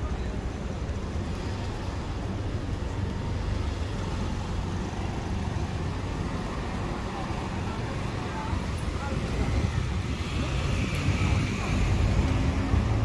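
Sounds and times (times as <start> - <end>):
cars passing: 0.0 - 13.0
city traffic rumble: 0.0 - 13.0.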